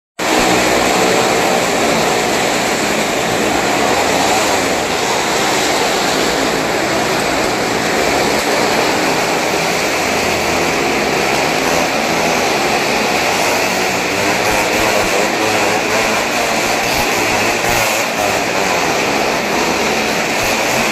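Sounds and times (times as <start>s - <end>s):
motorcycle and car engines roaring: 0.2s - 20.9s.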